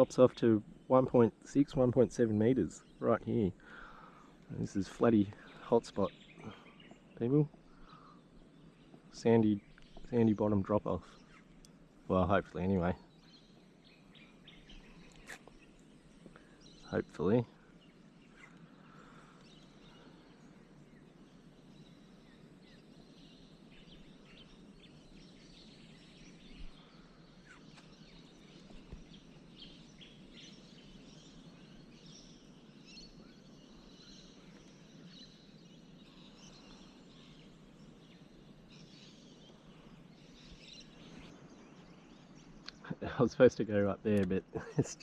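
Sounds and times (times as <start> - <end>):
bird chirps: 0.0 - 45.0
low steady hiss: 0.0 - 45.0.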